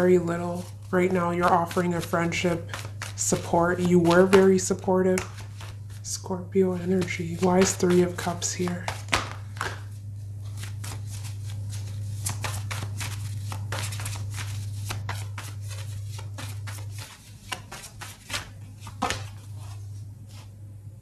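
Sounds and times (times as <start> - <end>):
low steady hum: 0.0 - 21.0
cards riffling and clicking: 0.6 - 6.1, 6.8 - 19.5.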